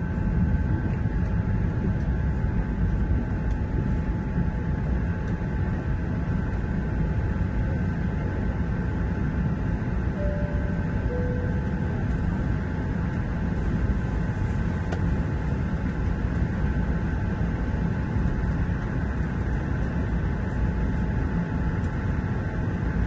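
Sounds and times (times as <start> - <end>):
aircraft cabin low rumble: 0.0 - 23.0
faint steady hums: 0.0 - 23.0.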